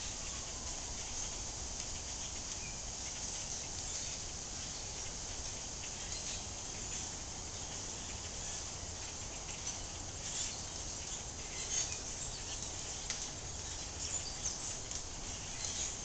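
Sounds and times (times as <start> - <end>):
flock of birds chattering: 0.0 - 16.0.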